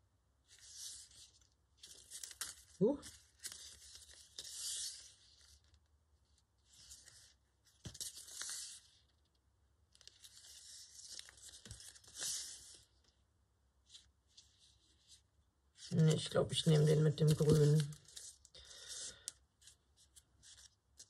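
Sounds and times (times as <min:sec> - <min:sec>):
paper and tape crackling: 0:00.5 - 0:13.2, 0:15.8 - 0:21.0.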